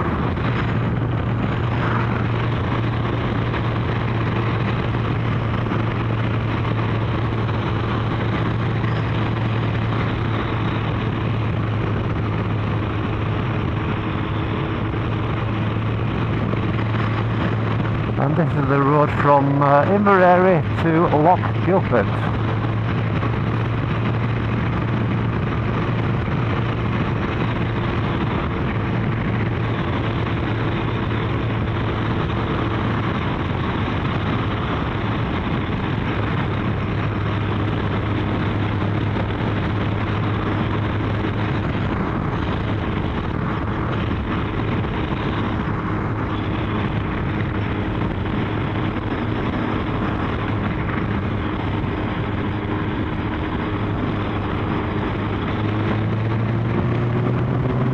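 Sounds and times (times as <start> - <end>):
motorcycle engine cruising: 0.0 - 57.9
wind and road rush: 0.0 - 57.9.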